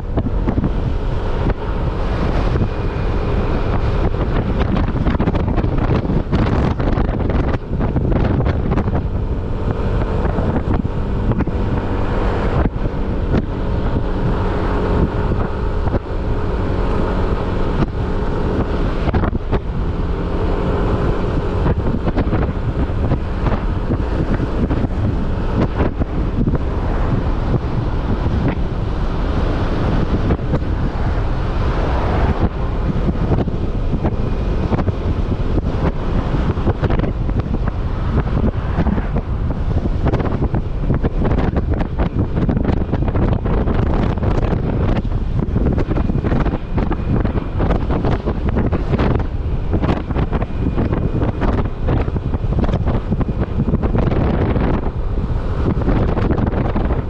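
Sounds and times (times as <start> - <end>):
motorcycle engine hum: 0.0 - 57.0
wind buffeting microphone: 0.0 - 57.0.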